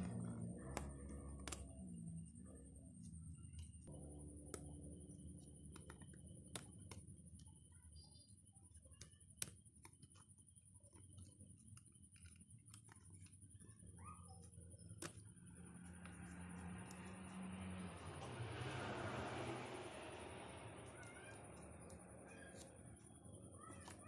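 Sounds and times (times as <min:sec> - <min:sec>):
faint high whine: 0:00.0 - 0:24.0
low hum: 0:00.0 - 0:24.0.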